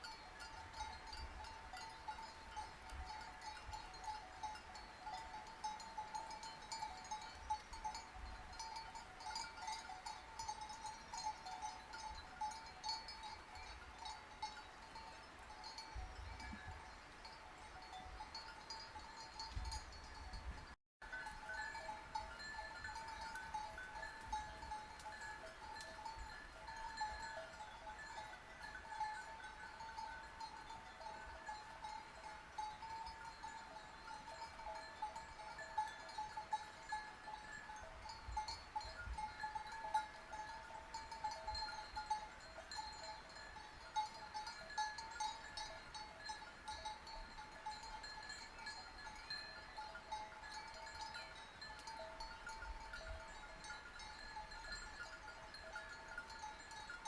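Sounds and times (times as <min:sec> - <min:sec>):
sheep bells clinking: 0:00.0 - 0:57.0.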